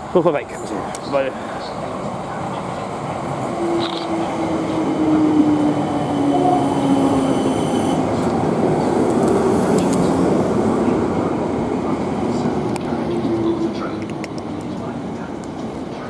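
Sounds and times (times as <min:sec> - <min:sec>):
train wheels rumbling on rail: 0:00.0 - 0:16.0
train whine: 0:00.0 - 0:16.0.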